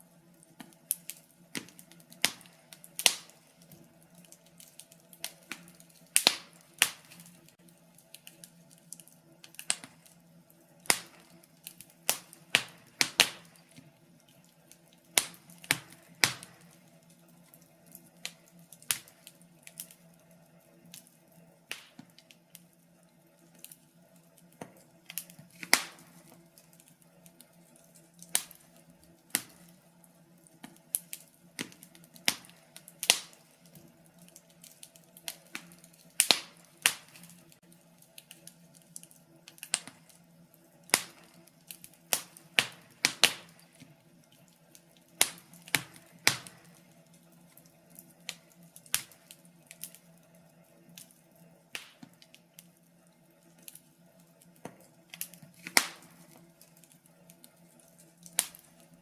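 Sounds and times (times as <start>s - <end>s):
faint steady low hum: 0.0s - 59.0s
fire crackling in a fireplace: 0.0s - 59.0s.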